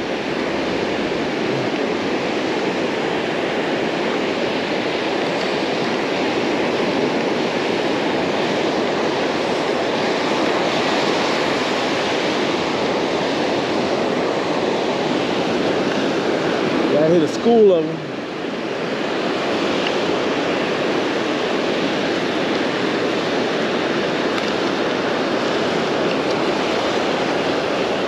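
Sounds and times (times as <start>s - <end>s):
surf breaking on beach: 0.0s - 28.0s.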